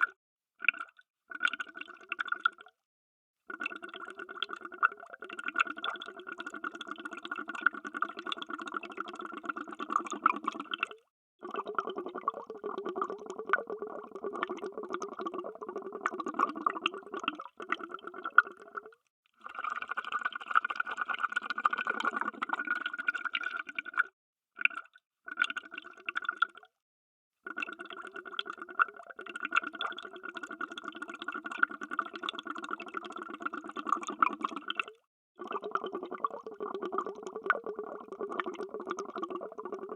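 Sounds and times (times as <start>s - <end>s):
underwater bubbling: 3.6s - 26.5s, 27.5s - 39.9s.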